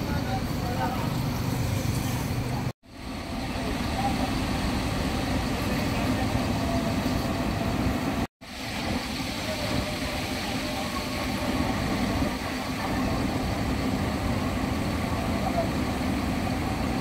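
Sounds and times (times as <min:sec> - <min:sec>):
bus engines idling: 0:00.0 - 0:17.0.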